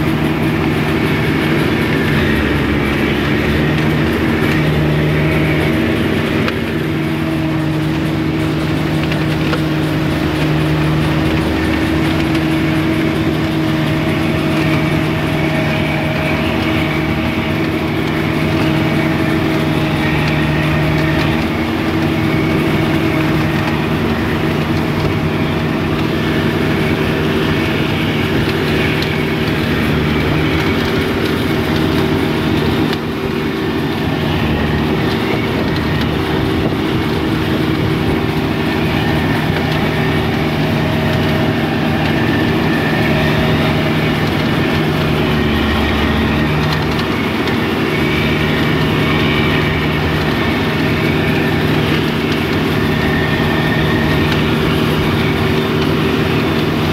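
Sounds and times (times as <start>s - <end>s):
combine harvester engine droning: 0.0s - 56.9s.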